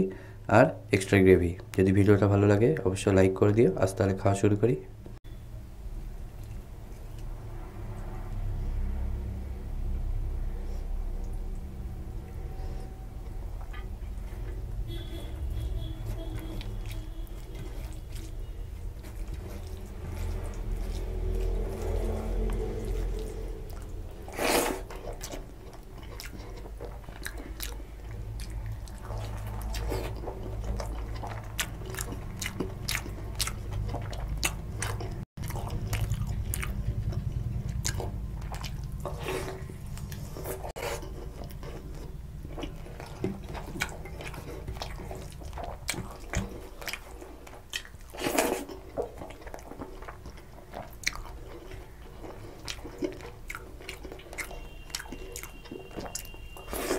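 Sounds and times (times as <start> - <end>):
chewing and biting food: 10.6 - 56.9.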